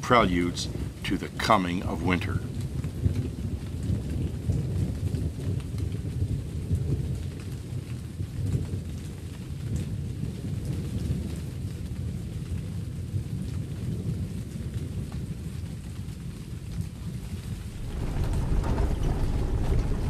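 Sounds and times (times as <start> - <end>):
rumble of thunder: 0.0 - 20.0
steady rain: 0.0 - 20.0.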